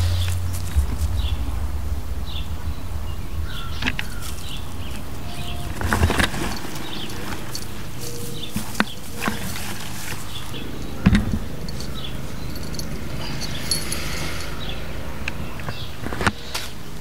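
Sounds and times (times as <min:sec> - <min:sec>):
low rumble: 0:00.0 - 0:16.1.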